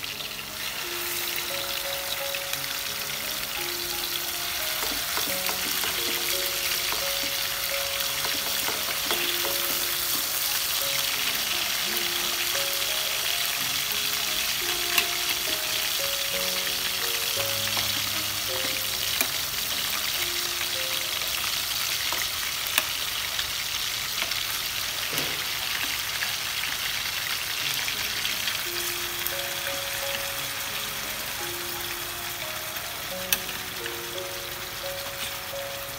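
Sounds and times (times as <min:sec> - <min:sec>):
meat sizzling in hot oil: 0:00.0 - 0:35.9.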